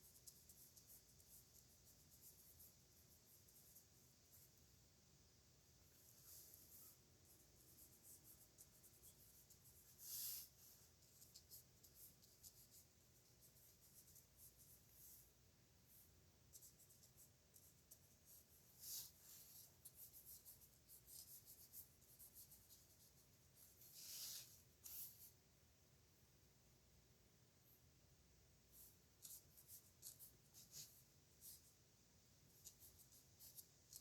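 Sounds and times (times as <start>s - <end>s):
pen nib scratching on paper: 0.0s - 4.6s, 5.9s - 15.3s, 16.5s - 25.3s, 28.7s - 31.8s, 32.5s - 34.0s.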